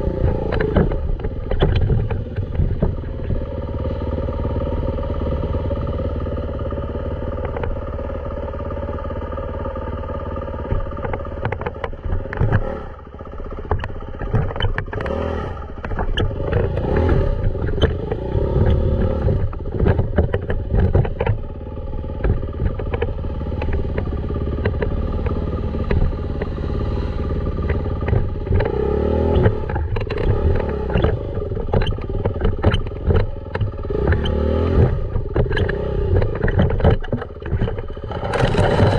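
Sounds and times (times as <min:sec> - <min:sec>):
sharp knocks and rattles: 0:00.0 - 0:04.3, 0:06.7 - 0:08.3, 0:10.5 - 0:38.9
dirt bike engine running: 0:00.0 - 0:38.9.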